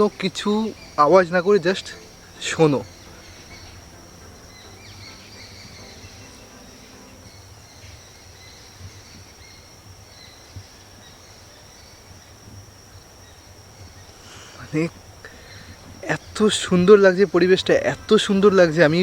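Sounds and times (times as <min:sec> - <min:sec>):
bird chirps: 0:00.0 - 0:19.0
crickets chirring: 0:00.0 - 0:19.0.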